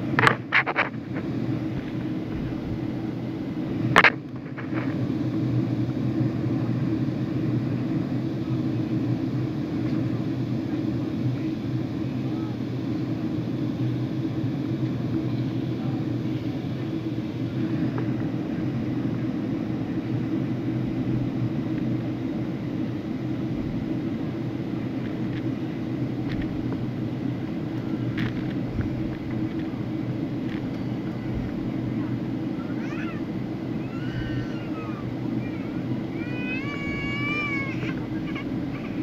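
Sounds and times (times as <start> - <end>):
vehicle interior drone: 0.0 - 39.0.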